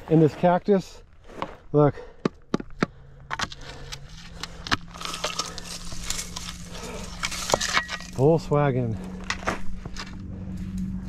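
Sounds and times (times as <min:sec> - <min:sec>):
dry brush and gravel crunching: 0:00.0 - 0:02.0, 0:02.6 - 0:11.0.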